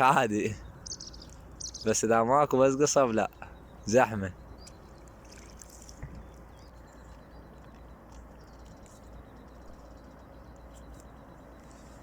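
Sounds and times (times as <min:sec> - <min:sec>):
faint high chirps: 0:00.0 - 0:12.0.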